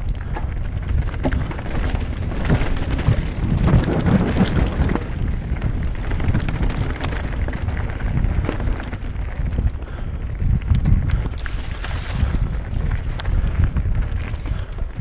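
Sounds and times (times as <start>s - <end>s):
bike knocks and rattles: 0.0s - 15.0s
bike tyres crunching over stones: 0.0s - 15.0s
wind buffeting microphone: 0.0s - 15.0s.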